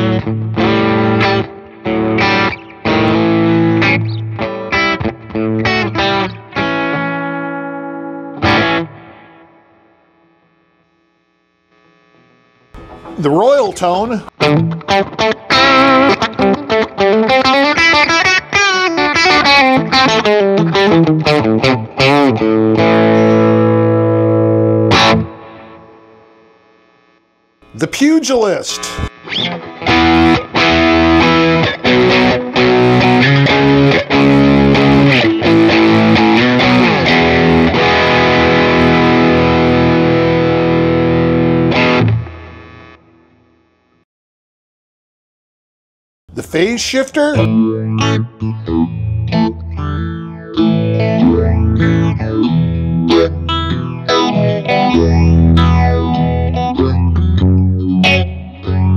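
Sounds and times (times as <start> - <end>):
electric guitar country licks: 0.0 - 10.0, 12.8 - 26.5, 27.6 - 43.2, 46.3 - 58.9.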